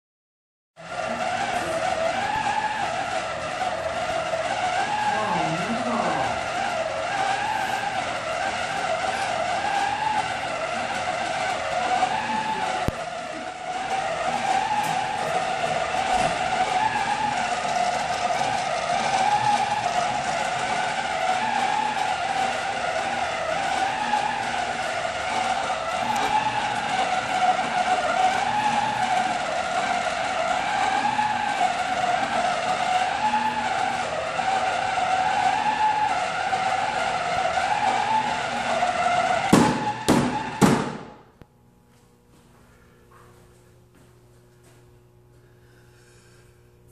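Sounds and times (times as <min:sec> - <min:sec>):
paper towel dispenser motor whine: 0:00.8 - 0:41.5.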